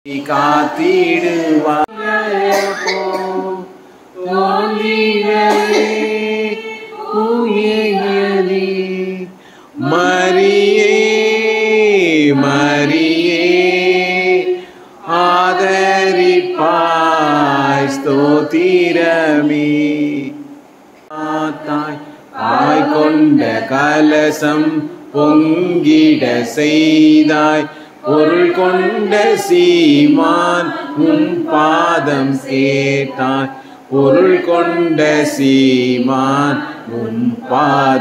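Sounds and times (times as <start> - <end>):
voices singing a hymn unaccompanied: 0.1 - 38.0.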